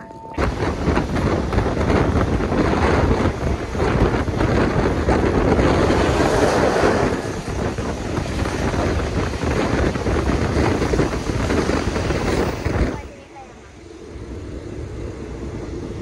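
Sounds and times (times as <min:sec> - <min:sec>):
train rumbling on track: 0:00.0 - 0:16.0
wind buffeting microphone: 0:00.0 - 0:16.0.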